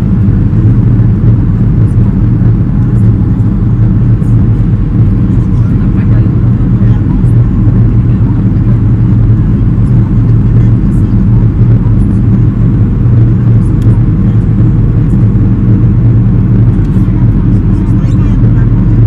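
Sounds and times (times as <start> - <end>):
airflow over wing flaps: 0.0 - 19.0
airplane cabin low rumble: 0.0 - 19.0
jet engines: 0.0 - 19.0.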